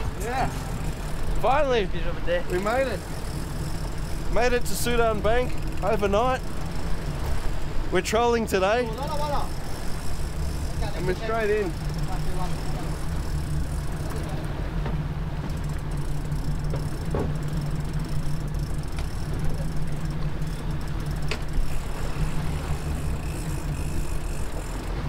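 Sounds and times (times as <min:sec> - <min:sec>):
boat engines droning: 0:00.0 - 0:25.0
water noise: 0:00.0 - 0:25.0
wind: 0:00.0 - 0:25.0.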